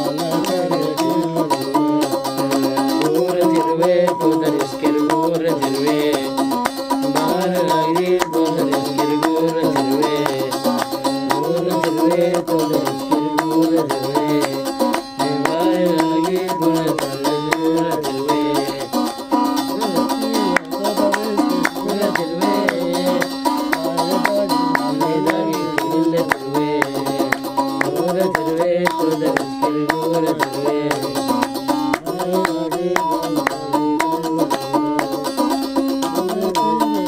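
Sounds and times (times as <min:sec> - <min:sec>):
hand-clapping: 0:00.0 - 0:37.0
men singing: 0:00.0 - 0:37.0
plucked lyre: 0:00.0 - 0:37.0.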